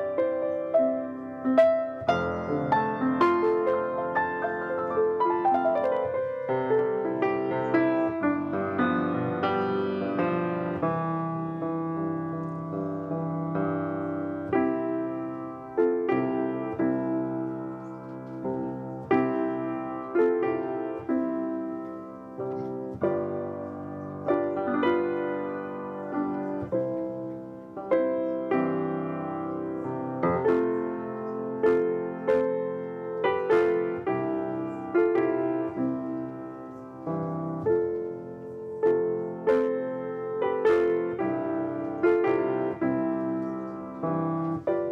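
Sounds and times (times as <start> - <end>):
solo piano playing slow tune: 0.0 - 44.9.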